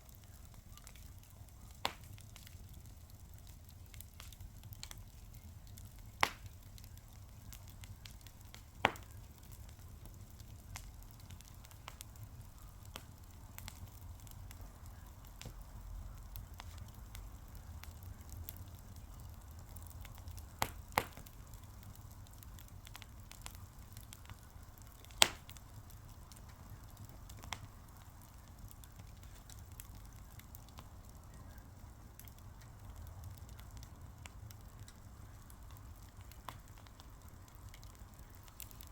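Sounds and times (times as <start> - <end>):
faint crackles: 0.0 - 38.9
sharp pops of burning wood: 0.0 - 38.9
wood fire burning: 0.0 - 38.9.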